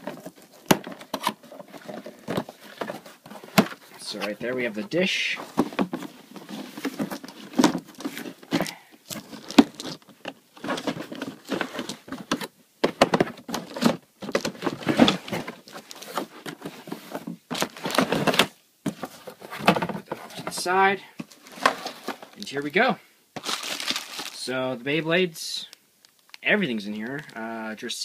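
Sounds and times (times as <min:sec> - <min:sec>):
cardboard scraping and rustling: 0:00.0 - 0:22.4, 0:23.4 - 0:24.4.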